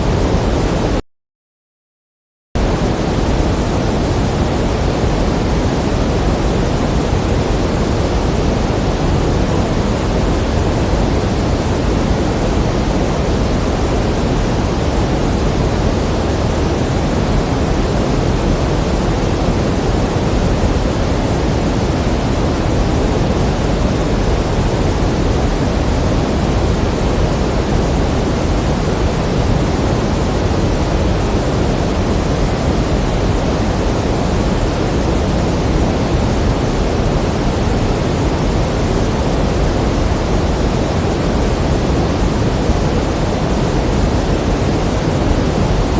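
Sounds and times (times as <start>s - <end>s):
pink noise hiss: 0.0s - 1.0s, 2.6s - 45.9s.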